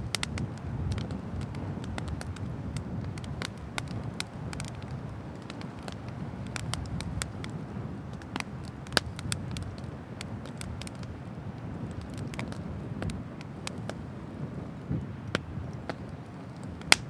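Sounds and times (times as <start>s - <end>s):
bonfire crackling and popping: 0.0s - 17.0s
low fire rumble: 0.0s - 17.0s.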